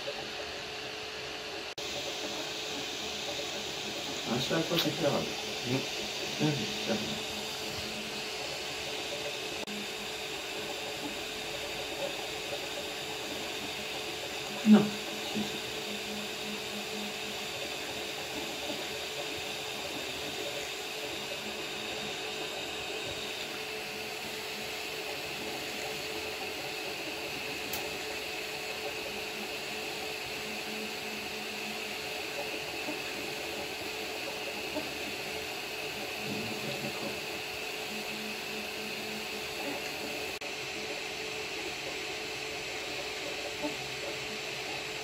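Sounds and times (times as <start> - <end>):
cooling fans humming: 0.0 - 45.0
stepper motors whirring: 0.0 - 45.0.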